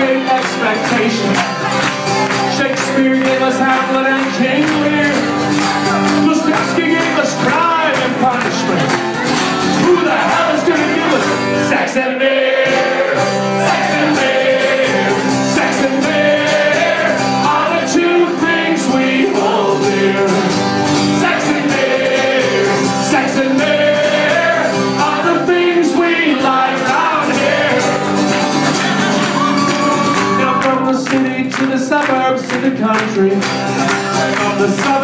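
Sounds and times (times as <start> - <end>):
person singing: 0.0 - 28.0, 28.6 - 35.0
strummed acoustic guitar: 0.0 - 35.0.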